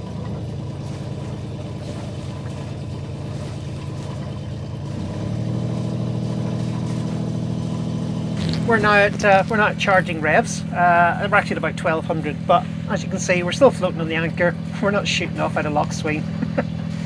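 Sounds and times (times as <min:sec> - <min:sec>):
diesel boat engine revving: 0:00.0 - 0:17.0.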